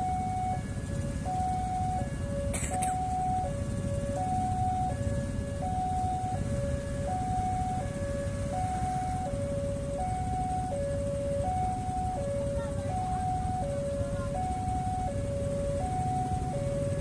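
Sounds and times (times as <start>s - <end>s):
passing train rumble: 0.0s - 17.0s
two-tone crossing alarm: 0.0s - 17.0s.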